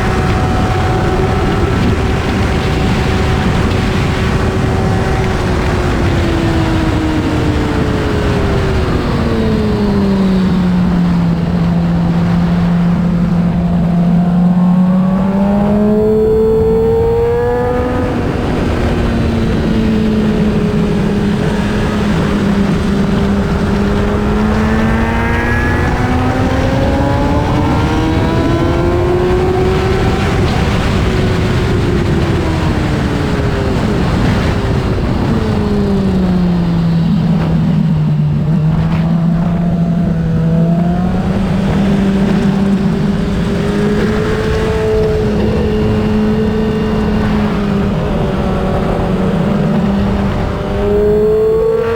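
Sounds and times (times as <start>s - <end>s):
motorcycle engine revving: 0.0s - 51.9s
wind noise rushing: 0.0s - 51.9s.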